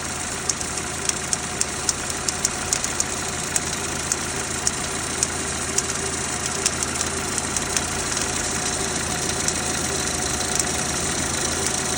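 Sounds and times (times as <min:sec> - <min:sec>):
car engine idling: 0:00.0 - 0:11.9
engine knocking: 0:00.0 - 0:11.9.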